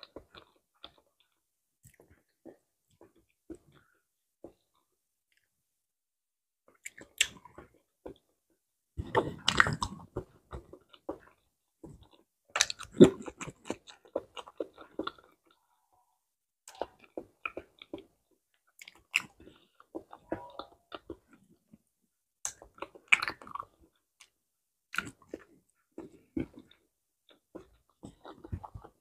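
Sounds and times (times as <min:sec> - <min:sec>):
person chewing banana: 0:00.0 - 0:05.5, 0:06.7 - 0:08.4, 0:09.0 - 0:15.8, 0:16.6 - 0:29.0.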